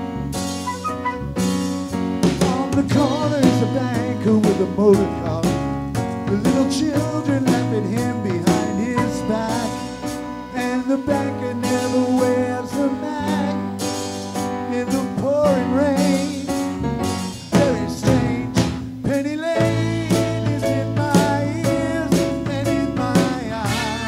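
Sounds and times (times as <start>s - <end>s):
drum kit: 0.0s - 24.0s
electric bass: 0.0s - 24.0s
keyboard: 0.0s - 24.0s.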